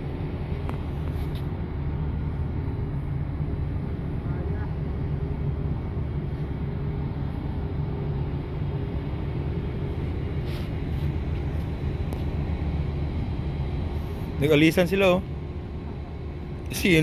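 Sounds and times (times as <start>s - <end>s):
ship machinery rumbling: 0.0s - 17.0s.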